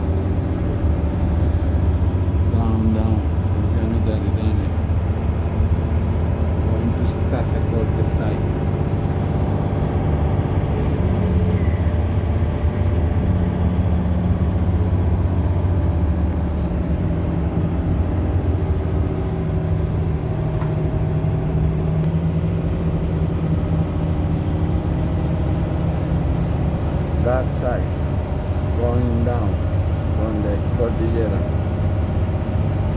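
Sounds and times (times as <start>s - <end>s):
bus engine droning: 0.0s - 32.9s.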